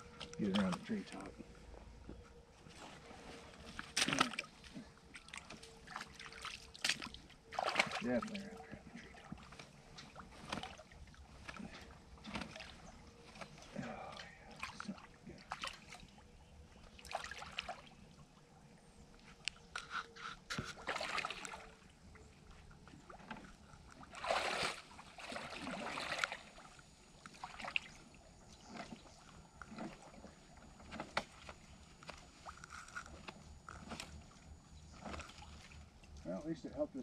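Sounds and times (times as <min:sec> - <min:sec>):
water sloshing and splashing: 0:00.0 - 0:36.7.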